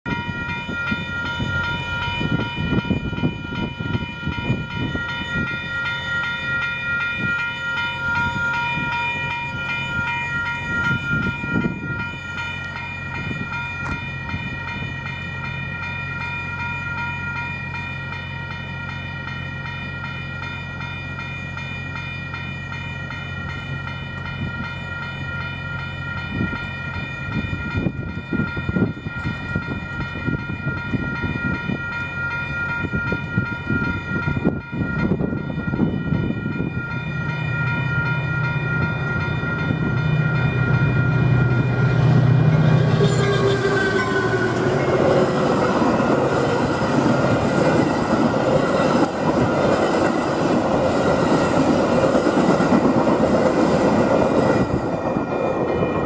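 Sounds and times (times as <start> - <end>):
crossing warning bells ringing: 0.0 - 56.0.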